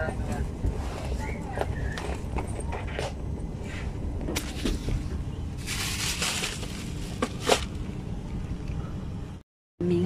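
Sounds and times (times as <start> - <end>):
aircraft cabin rumble: 0.0 - 9.4.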